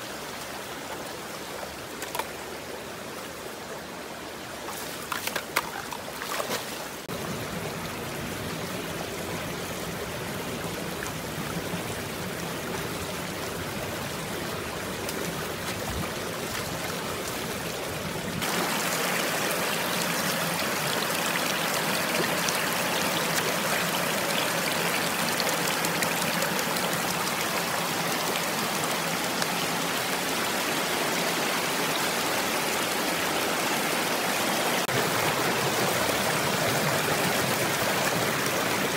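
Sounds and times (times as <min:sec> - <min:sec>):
stream rushing over stones: 0:00.0 - 0:38.9.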